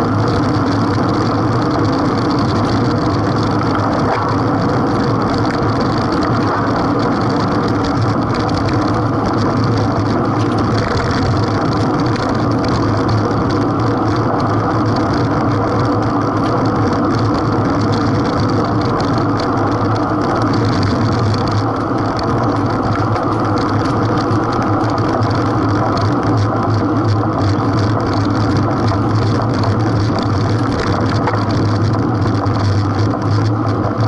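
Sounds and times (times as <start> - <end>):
bicycle tyre rumble: 0.0 - 34.0.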